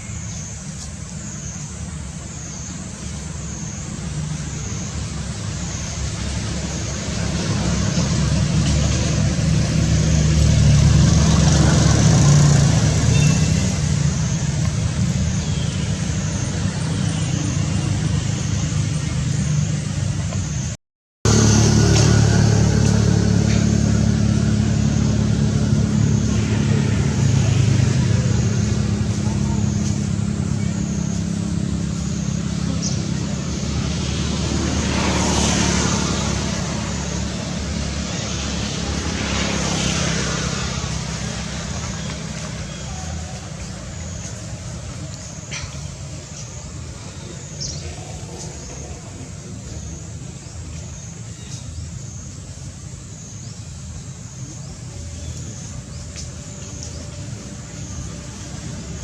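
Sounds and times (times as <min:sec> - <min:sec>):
low outdoor rumble: 0:00.0 - 0:59.0
vehicle engine running: 0:03.0 - 0:59.0.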